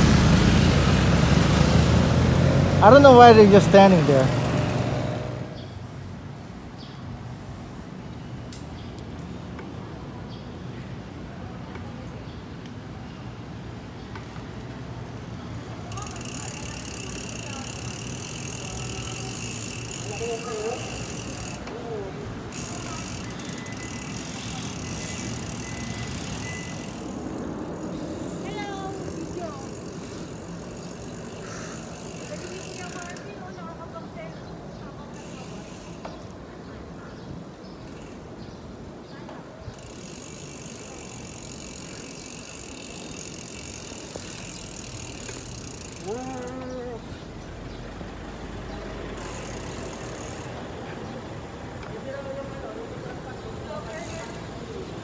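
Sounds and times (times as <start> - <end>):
bicycle tyres rolling on road: 0.0 - 10.4, 13.9 - 55.0.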